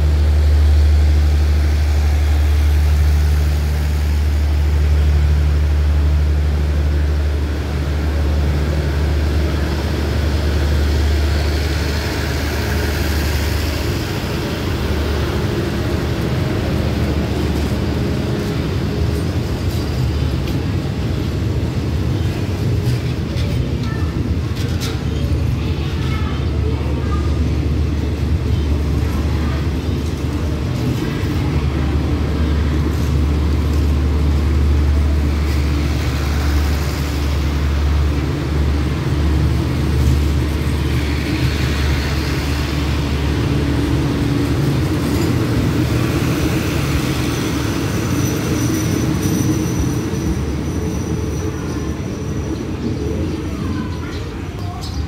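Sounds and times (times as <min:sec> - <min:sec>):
train carriages rumbling on rails: 0:00.0 - 0:55.0.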